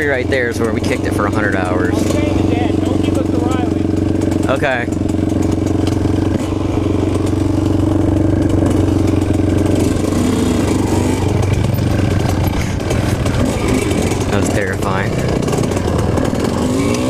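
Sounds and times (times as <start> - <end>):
dirt bike engine at low revs: 0.0 - 17.0.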